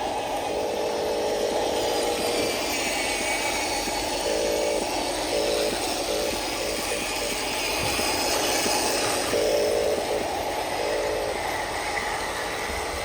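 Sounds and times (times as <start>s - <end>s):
rattling running noise: 0.0s - 13.0s
toy truck motor whining: 0.0s - 13.0s.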